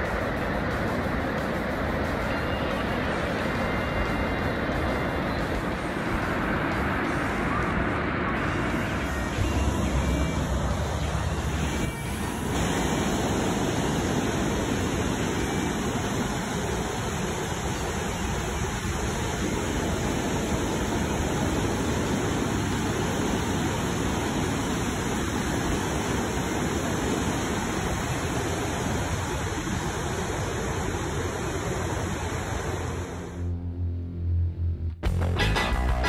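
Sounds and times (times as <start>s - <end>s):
ocean waves breaking: 0.0s - 33.4s.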